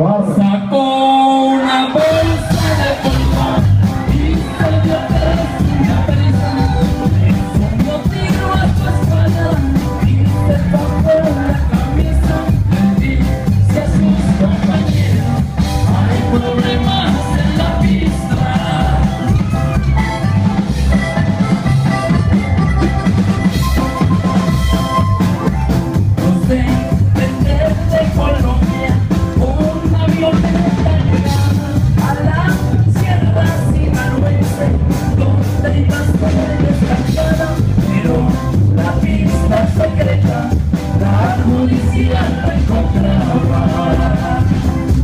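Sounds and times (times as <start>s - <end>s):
beating bass: 0.0s - 45.0s
live band playing: 0.0s - 45.0s
drum kit: 1.9s - 45.0s.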